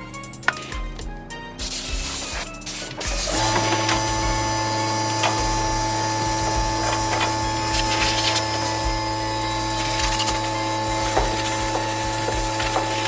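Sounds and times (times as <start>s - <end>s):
electric motor tool humming: 0.0s - 13.0s.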